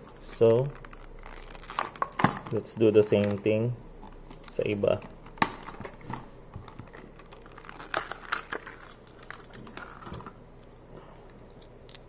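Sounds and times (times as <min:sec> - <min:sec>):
plastic packaging crinkling: 0:00.2 - 0:12.0.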